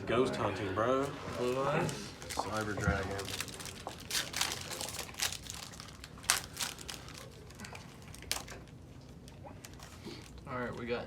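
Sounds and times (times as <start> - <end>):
foil wrapper crinkling and tearing: 1.0 - 10.8.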